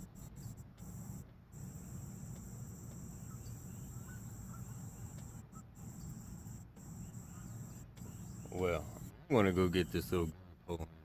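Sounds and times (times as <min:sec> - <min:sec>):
faint chirps: 0:00.0 - 0:10.4
insects droning: 0:00.0 - 0:10.9.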